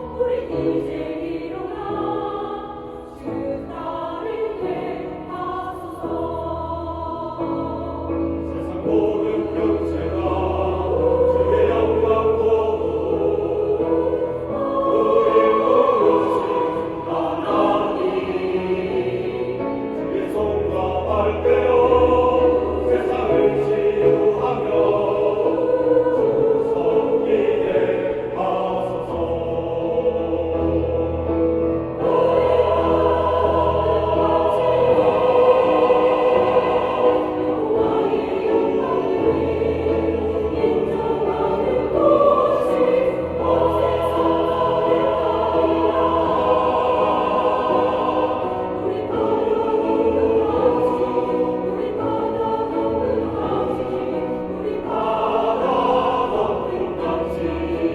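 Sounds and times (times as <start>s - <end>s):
choir singing a hymn: 0.0s - 57.9s.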